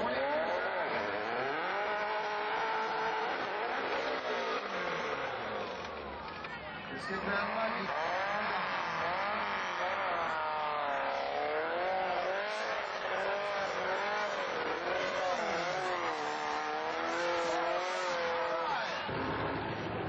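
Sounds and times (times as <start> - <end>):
racing buggy engine revving: 0.0 - 20.0.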